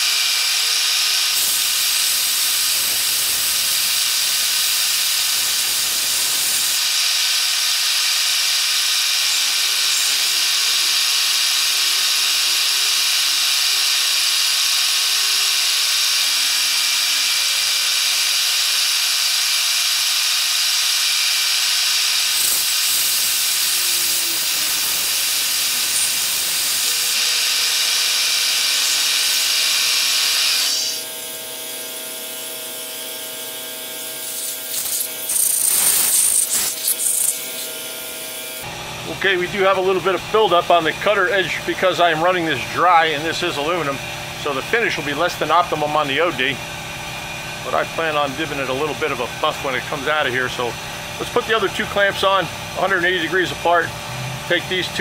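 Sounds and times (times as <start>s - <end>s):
end mill cutting metal: 0.0s - 55.0s.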